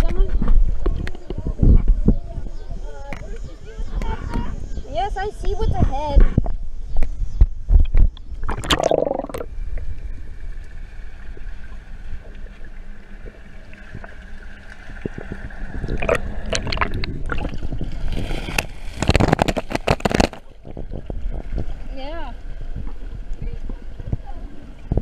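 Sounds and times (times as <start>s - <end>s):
water moving around microphone: 0.0s - 25.0s.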